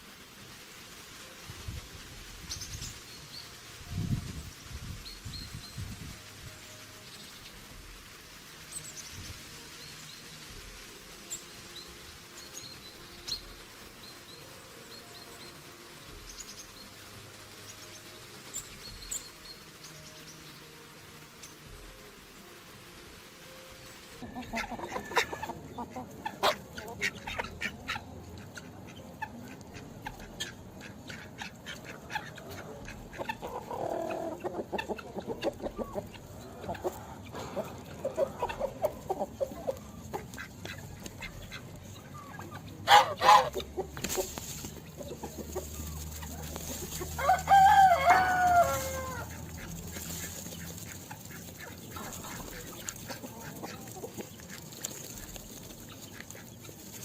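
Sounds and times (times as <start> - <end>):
birds calling and chirping: 8.6 - 22.4, 23.4 - 57.0.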